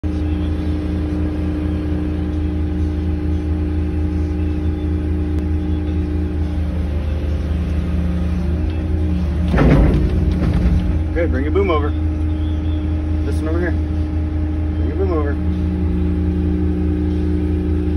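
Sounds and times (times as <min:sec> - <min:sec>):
excavator engine hum: 0:00.0 - 0:17.9.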